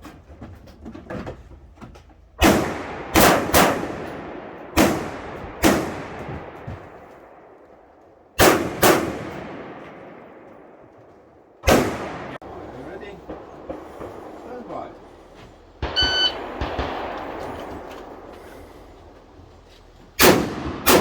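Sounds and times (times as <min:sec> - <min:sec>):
rifle shots echoing: 0:02.4 - 0:19.6, 0:20.2 - 0:21.0.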